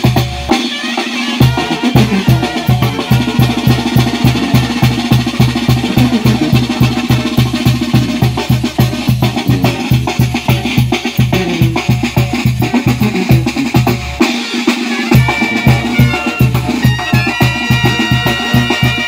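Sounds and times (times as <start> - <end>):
bass drum and snare beat: 0.0 - 0.8, 1.4 - 19.0
brass band playing: 0.0 - 19.0.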